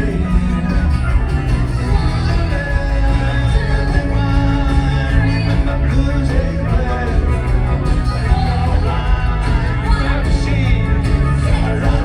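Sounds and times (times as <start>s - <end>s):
bass: 0.0s - 12.0s
drums: 0.0s - 12.0s
electric guitar: 0.0s - 12.0s.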